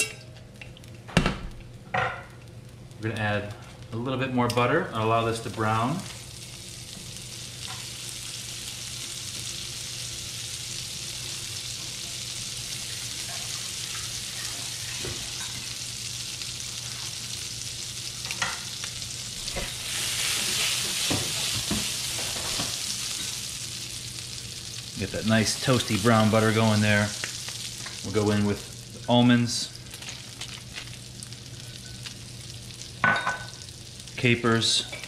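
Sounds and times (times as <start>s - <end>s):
butter sizzling in skillet: 4.7s - 35.0s.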